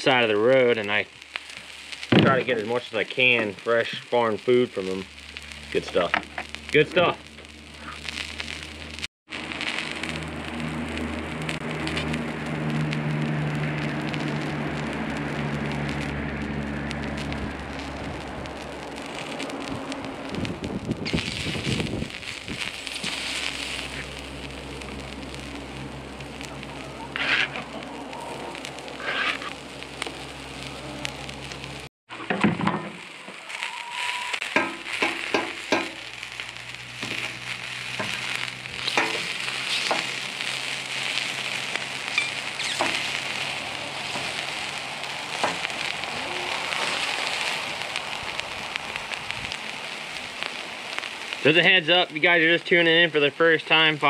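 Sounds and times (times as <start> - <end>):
food sizzling on a griddle: 0.0 - 31.9, 32.5 - 54.0.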